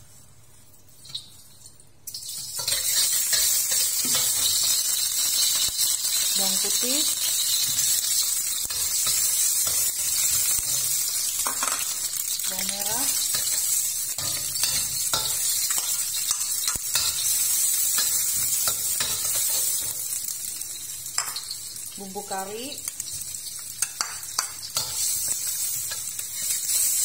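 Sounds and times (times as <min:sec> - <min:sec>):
garlic sizzling in hot oil: 0:00.9 - 0:27.0.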